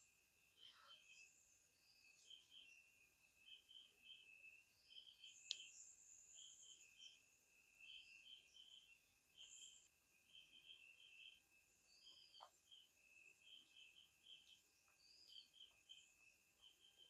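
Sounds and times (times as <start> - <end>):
faint high chirping: 0.0 - 17.0.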